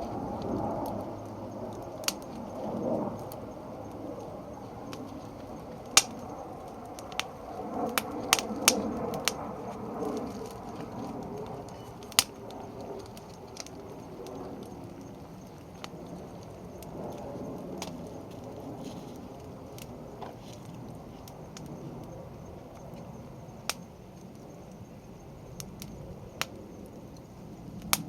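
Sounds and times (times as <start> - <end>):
firewood crackling and popping: 0.0 - 28.0.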